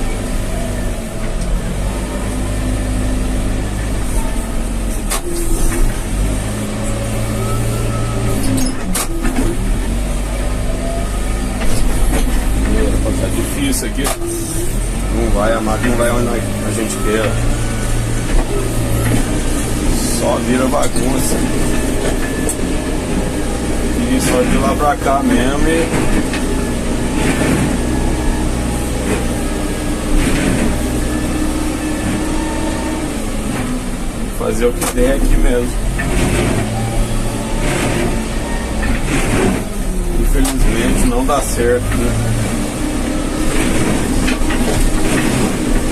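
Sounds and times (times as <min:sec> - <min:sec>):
backhoe diesel engine humming: 0:00.0 - 0:45.9.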